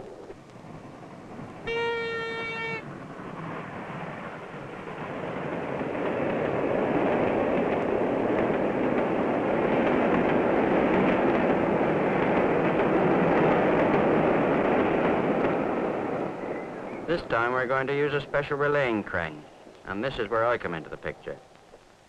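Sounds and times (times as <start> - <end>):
train coaches on rails: 0.0 - 21.8.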